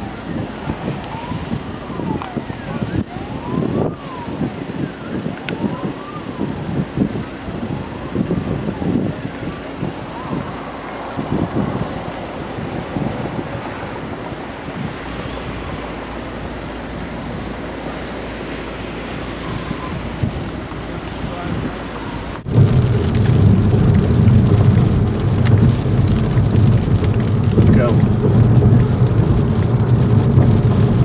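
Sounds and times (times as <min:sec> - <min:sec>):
car road and engine noise: 0:00.0 - 0:31.0.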